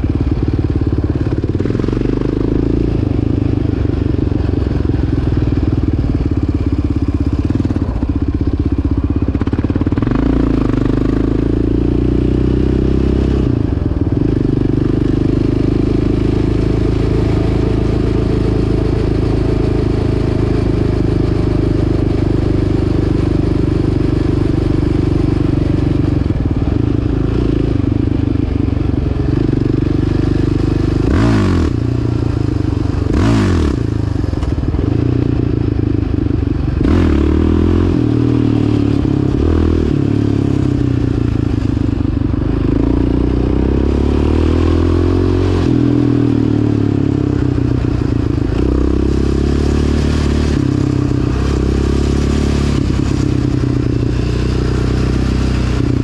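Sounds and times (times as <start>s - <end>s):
quad engine running: 0.0s - 56.0s.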